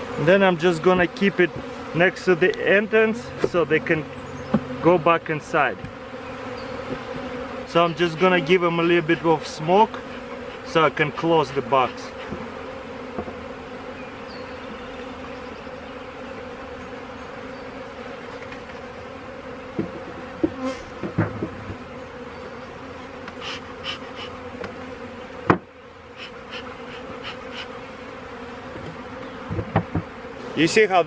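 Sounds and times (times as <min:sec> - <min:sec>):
honey bees buzzing: 0:00.0 - 0:31.0.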